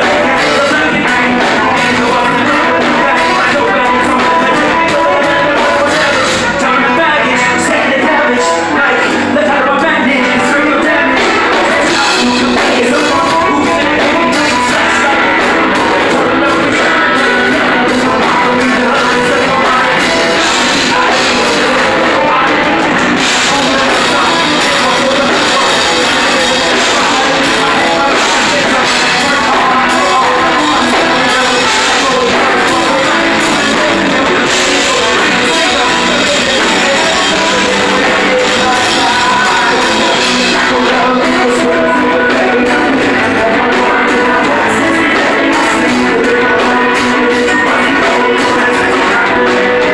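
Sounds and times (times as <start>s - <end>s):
drums: 0.0s - 49.9s
electric guitar: 0.0s - 49.9s
person singing: 0.0s - 49.9s.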